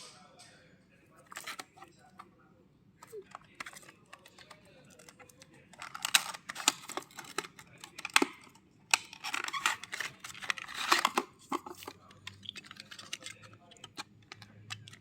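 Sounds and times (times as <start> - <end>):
packaging rustling and scraping: 1.2 - 1.9, 3.0 - 15.0.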